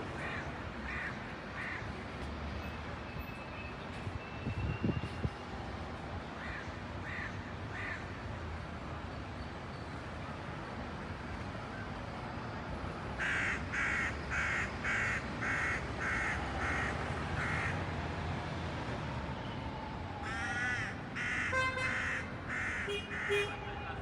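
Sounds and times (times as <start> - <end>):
city street noise hum: 0.0 - 24.0.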